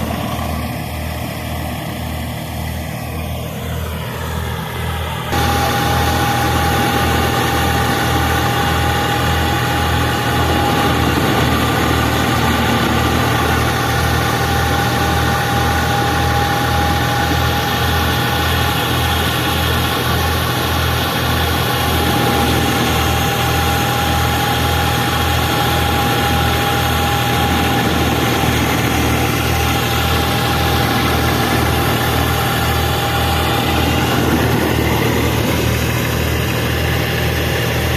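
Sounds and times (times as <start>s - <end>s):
high whine: 0.0s - 37.9s
tractor diesel engine running: 0.0s - 37.9s.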